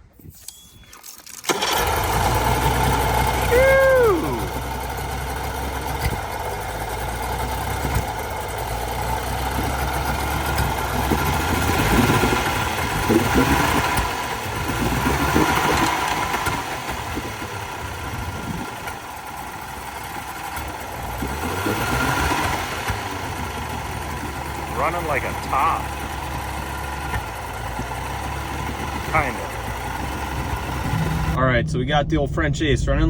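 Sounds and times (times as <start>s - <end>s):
outboard motor running: 1.5s - 31.4s.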